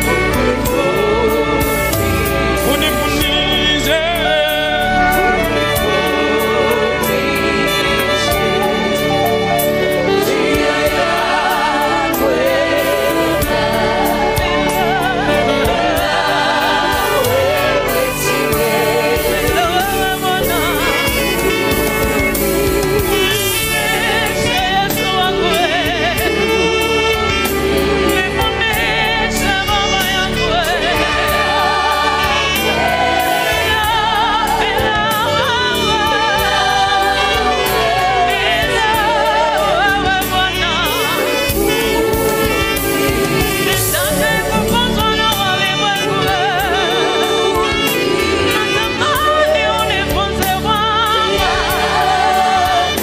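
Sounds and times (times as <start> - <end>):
low backing accompaniment: 0.0 - 53.0
saxophone playing gospel melody: 0.0 - 53.0.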